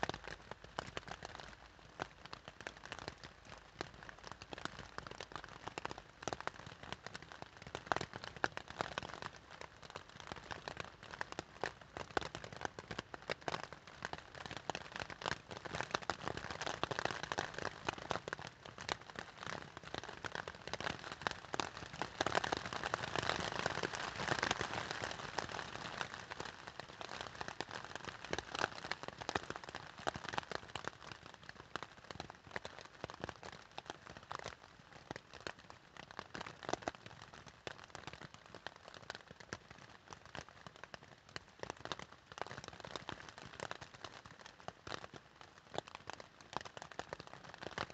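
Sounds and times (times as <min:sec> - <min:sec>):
raindrops hitting tent fabric: 0:00.0 - 0:47.9.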